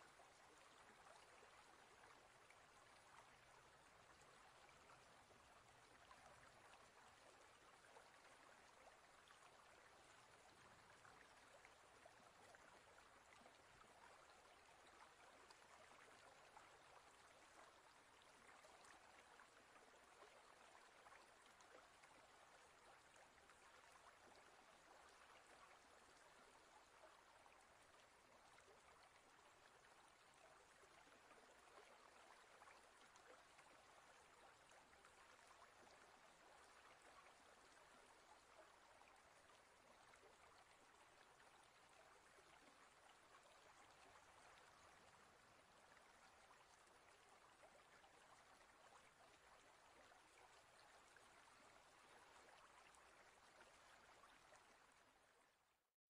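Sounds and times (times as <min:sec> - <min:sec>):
aquarium water trickling and bubbling: 0:00.0 - 0:55.8.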